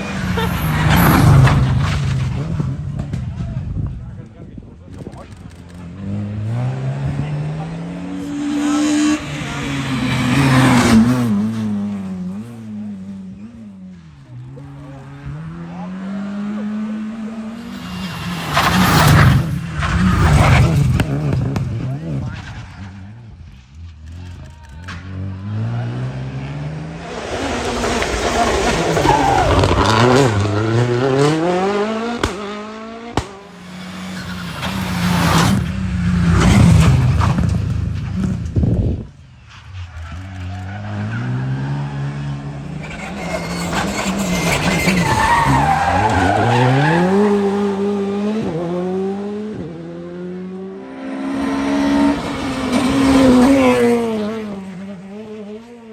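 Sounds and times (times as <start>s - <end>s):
rally car engine accelerating: 0.0s - 55.9s.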